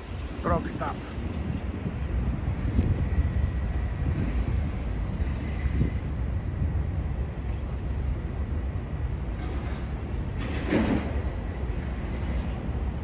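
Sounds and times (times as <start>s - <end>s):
rumble of trucks and traffic: 0.0s - 13.0s
wind buffeting microphone: 0.0s - 13.0s.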